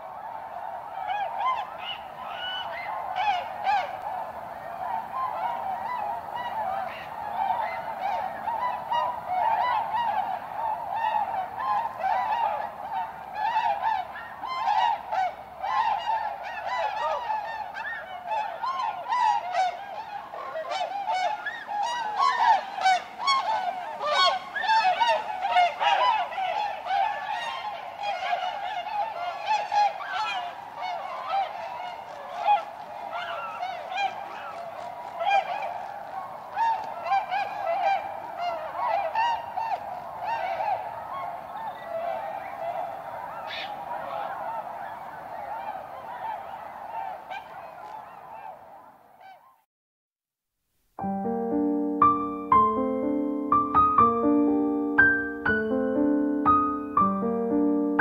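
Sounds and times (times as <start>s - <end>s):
waterfowl flock calling: 0.0s - 49.5s, 51.0s - 58.0s.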